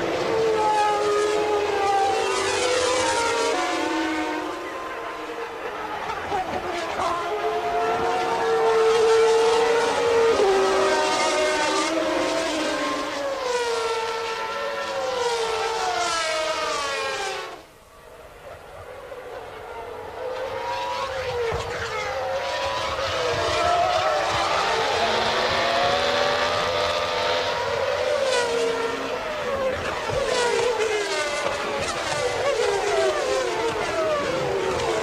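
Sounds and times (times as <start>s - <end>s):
race car engines at high revs: 0.0s - 35.0s.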